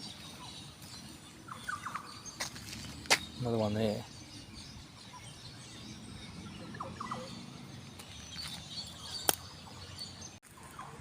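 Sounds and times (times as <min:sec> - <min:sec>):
bird chirps: 0:00.0 - 0:11.0
faint outdoor ambience: 0:00.0 - 0:11.0.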